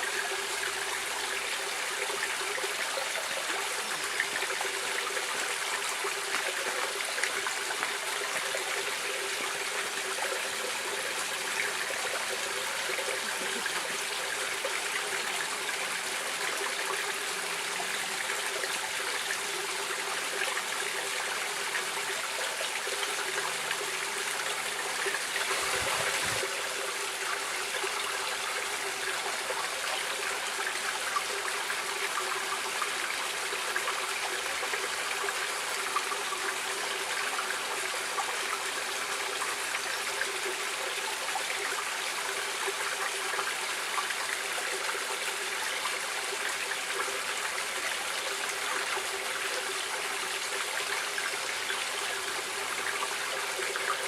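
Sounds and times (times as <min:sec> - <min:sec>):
stream water running and splashing: 0:00.0 - 0:54.0.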